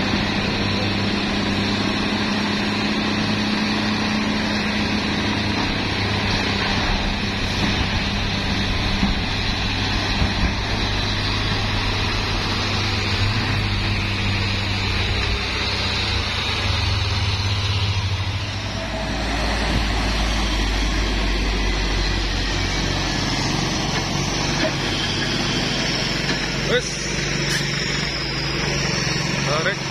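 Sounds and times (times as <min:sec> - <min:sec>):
diesel trucks driving past: 0:00.0 - 0:29.9.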